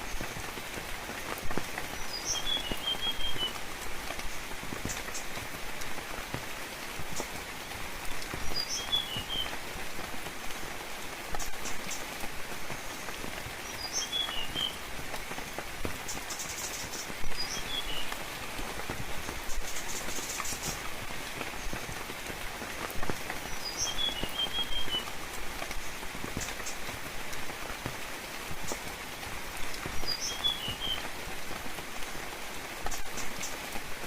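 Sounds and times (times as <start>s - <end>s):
gentle rain: 0.0s - 34.0s.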